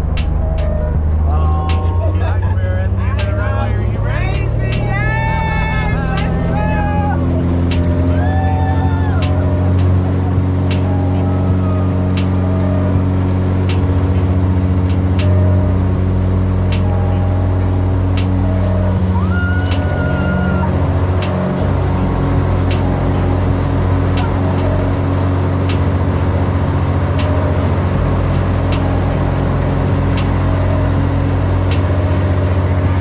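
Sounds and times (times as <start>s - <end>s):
propeller airplane engine droning: 0.0s - 33.0s.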